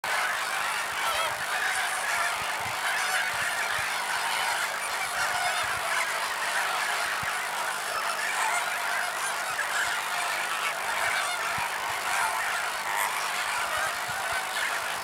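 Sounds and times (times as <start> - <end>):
flamingos honking and gabbling: 0.0 - 15.0.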